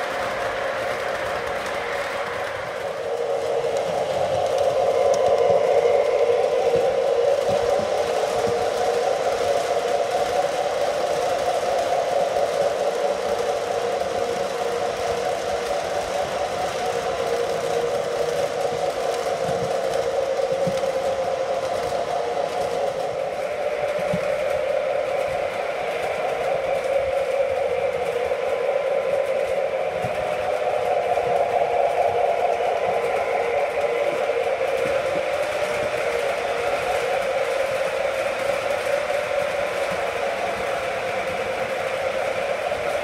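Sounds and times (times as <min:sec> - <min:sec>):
model train rumbling: 0:00.0 - 0:43.0.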